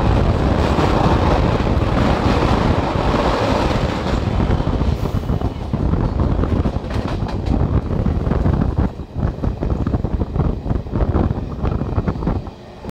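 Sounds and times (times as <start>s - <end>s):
train wheels rumbling on rails: 0.0s - 12.9s
wind buffeting microphone: 0.0s - 12.9s.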